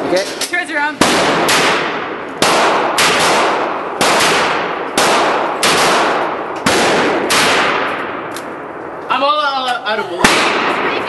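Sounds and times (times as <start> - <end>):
gunshots echoing: 0.9 - 9.0, 10.2 - 11.0.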